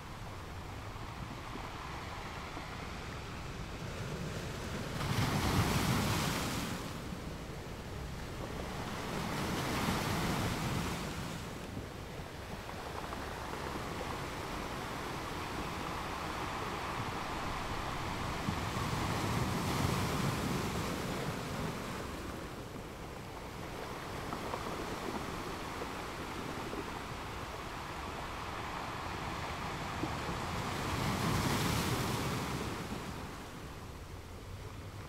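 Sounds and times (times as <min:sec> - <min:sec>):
surf washing up beach: 0:00.0 - 0:35.0.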